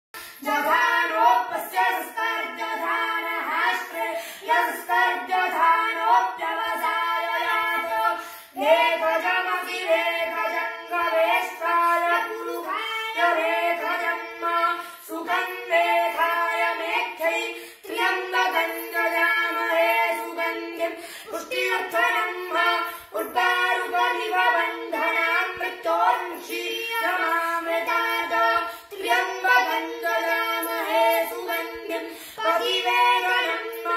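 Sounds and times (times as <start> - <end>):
child and women chanting: 0.2 - 33.9.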